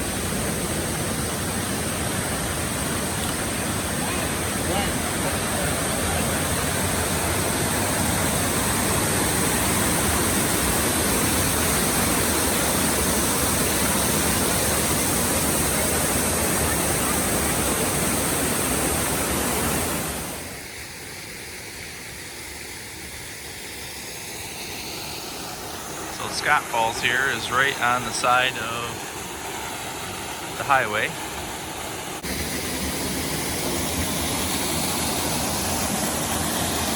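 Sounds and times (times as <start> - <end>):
waterfall rushing: 0.0 - 20.6, 24.3 - 36.9
quiet water hiss: 0.0 - 36.9.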